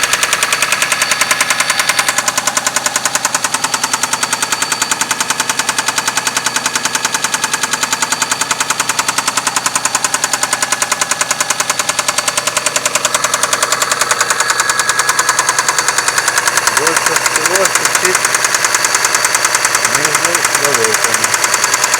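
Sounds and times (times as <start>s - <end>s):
car engine idling: 0.0s - 21.9s
rapid engine knock: 0.0s - 21.9s.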